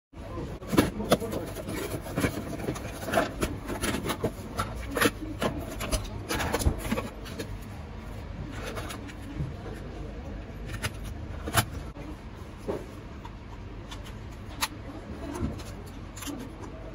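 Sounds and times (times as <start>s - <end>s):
plastic toy parts being handled: 0.6s - 16.9s.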